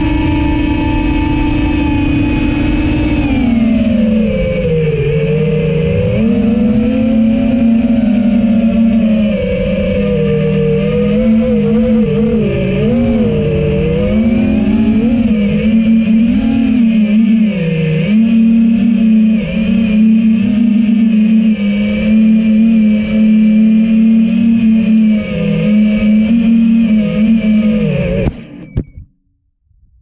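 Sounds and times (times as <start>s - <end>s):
quadcopter motors whining: 0.0s - 28.9s.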